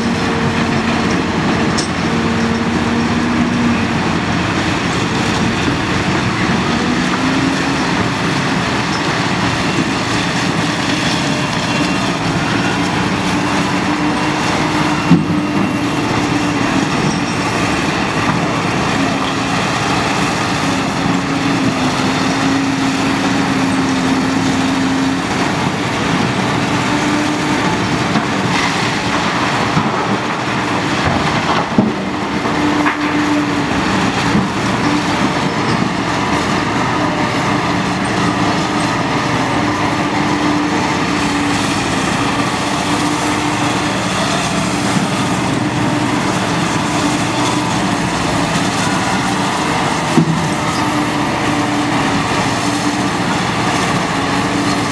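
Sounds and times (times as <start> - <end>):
diesel engine under load: 0.0 - 54.9.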